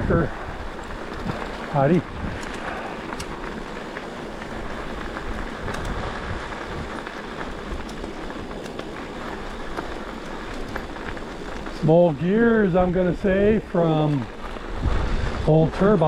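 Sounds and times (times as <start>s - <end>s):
bicycle tyres rolling on gravel: 0.0s - 16.0s
stones ticking under wheels: 0.0s - 16.0s.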